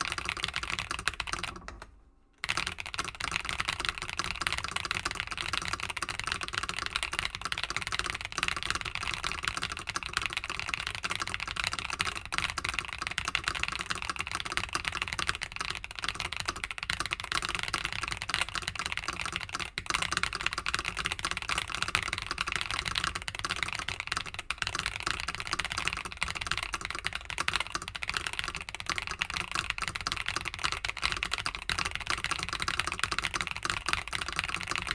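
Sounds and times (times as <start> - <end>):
fast typing on mechanical keyboard: 0.0 - 34.9.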